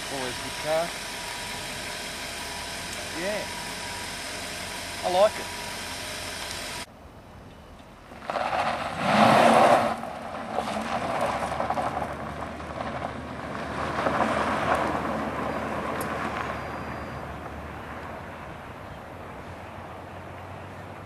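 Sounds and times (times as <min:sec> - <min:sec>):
car engine driving: 0:00.0 - 0:06.9, 0:08.1 - 0:21.0
road and wind noise: 0:00.0 - 0:21.0.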